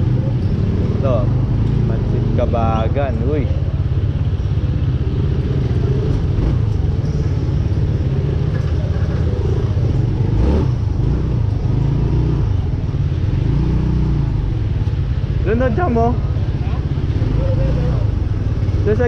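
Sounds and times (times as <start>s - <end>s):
scooter engine rumbling: 0.0s - 19.0s.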